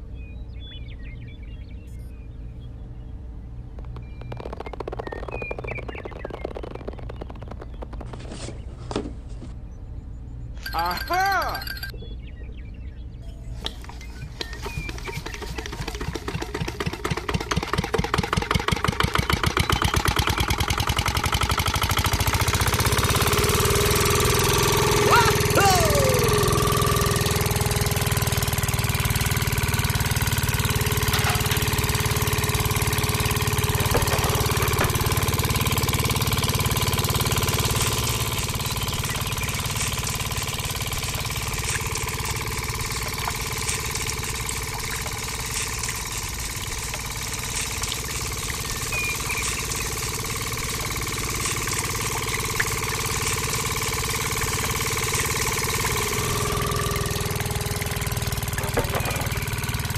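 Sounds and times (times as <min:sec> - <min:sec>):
model engine droning with whine: 0:00.0 - 0:59.9.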